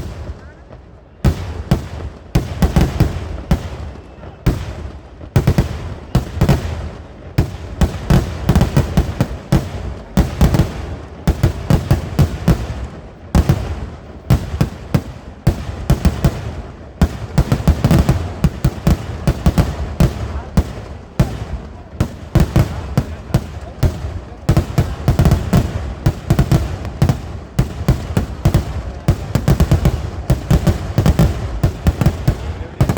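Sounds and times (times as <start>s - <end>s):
fireworks bangs: 0.0s - 32.9s
low rumble of fireworks: 0.0s - 32.9s.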